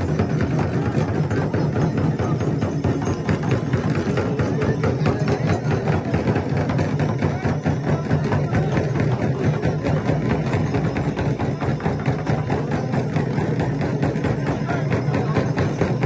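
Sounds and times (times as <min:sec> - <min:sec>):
crowd voices murmuring: 0:00.0 - 0:16.0
frame drum beaten fast: 0:00.0 - 0:16.0.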